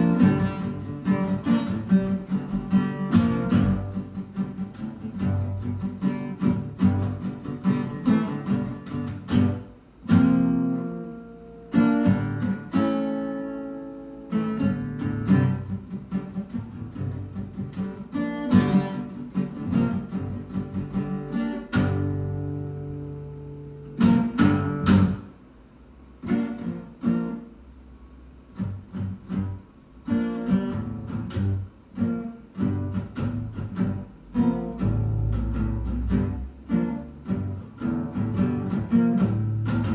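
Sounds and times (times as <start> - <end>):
acoustic guitar strumming and picking: 0.0 - 25.4, 26.2 - 27.7, 28.5 - 39.9.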